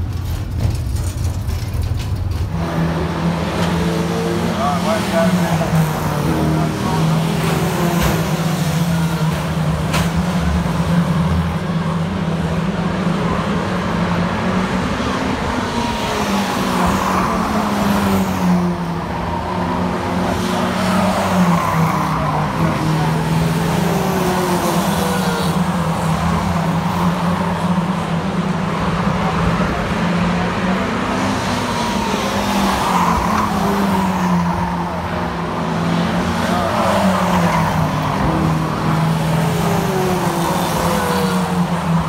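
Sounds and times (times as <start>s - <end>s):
cars passing by: 0.0s - 42.0s
race car engines roaring: 0.0s - 42.0s.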